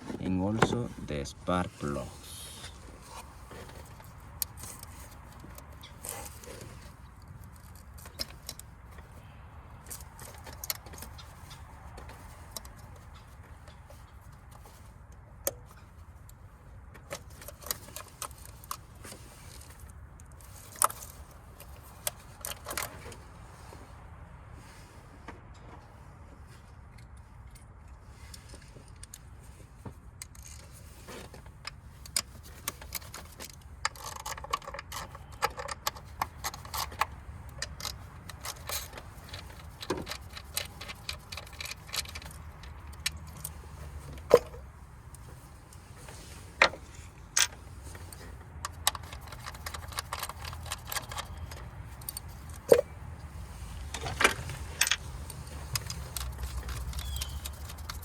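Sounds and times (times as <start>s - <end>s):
hand tools and metal clinking: 0.0s - 23.9s, 26.4s - 58.0s.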